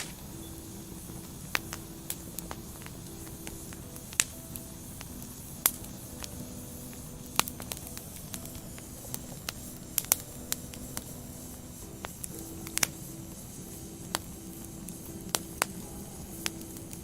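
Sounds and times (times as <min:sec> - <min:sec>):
fire pops and crackles: 0:00.0 - 0:17.0
wood fire hissing: 0:00.0 - 0:17.0.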